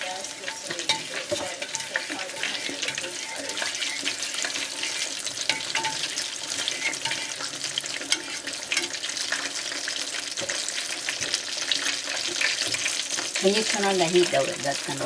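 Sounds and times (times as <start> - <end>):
wings deep-frying in hot oil: 0.0 - 15.0.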